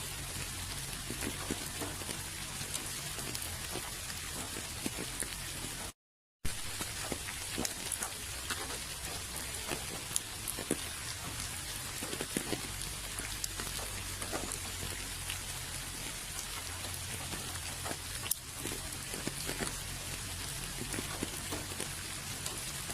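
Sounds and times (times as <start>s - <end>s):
rain drops ticking on a surface: 0.0s - 22.9s.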